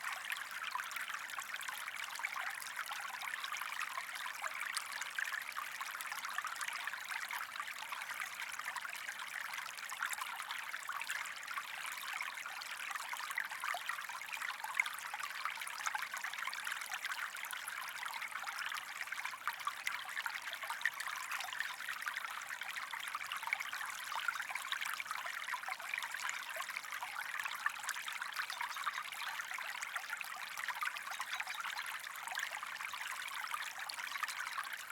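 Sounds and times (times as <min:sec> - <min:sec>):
stream of water trickling: 0:00.0 - 0:34.9.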